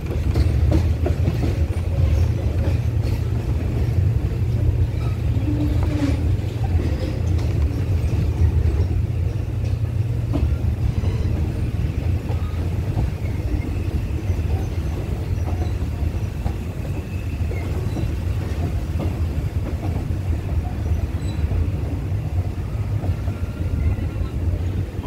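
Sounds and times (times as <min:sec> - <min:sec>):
train running gear rumbling: 0:00.0 - 0:25.0
wheels clicking over rail joints: 0:00.0 - 0:25.0.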